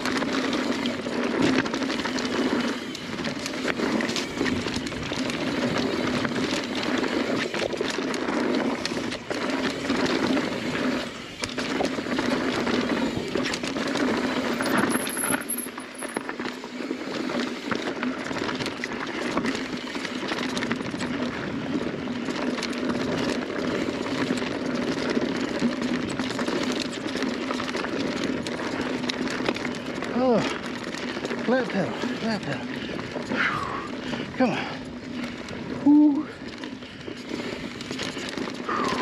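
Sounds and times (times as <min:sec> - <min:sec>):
bike rattling and clicking: 0:00.0 - 0:39.0
bike tyres rolling over dirt: 0:00.0 - 0:39.0.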